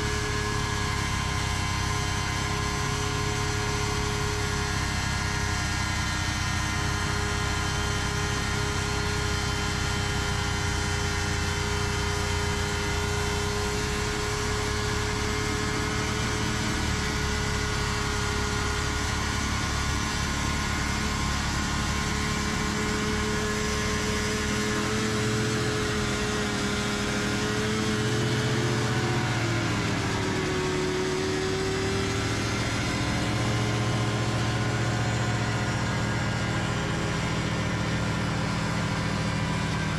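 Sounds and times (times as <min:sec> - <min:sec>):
engines running: 0:00.0 - 0:39.9.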